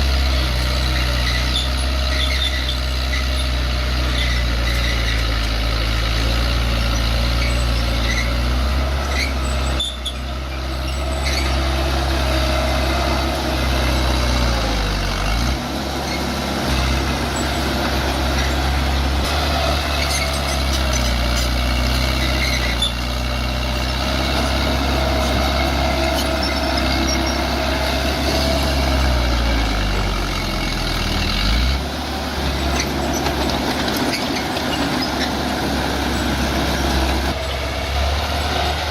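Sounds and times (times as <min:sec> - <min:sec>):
bulldozer diesel engine running hard: 0:00.0 - 0:38.9.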